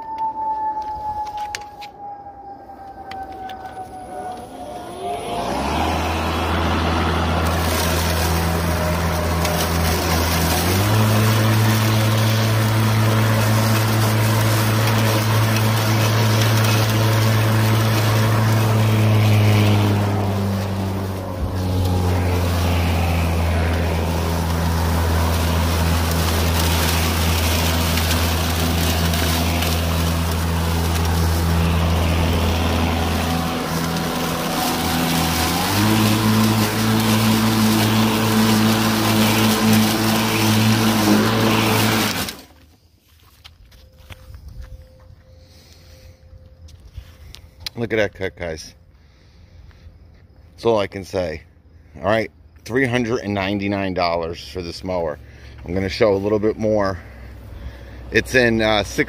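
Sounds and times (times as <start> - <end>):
lawn mower motor and blade hum: 3.0 - 44.8, 52.6 - 59.0
rush of cut grass: 4.4 - 44.2, 50.9 - 59.0.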